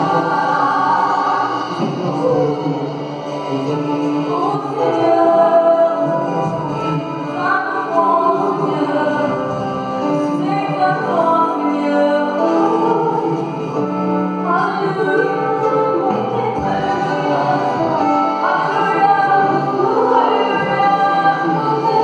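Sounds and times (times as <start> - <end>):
band with keyboard and guitar: 0.0 - 22.0
vocalists singing into microphones: 0.0 - 22.0.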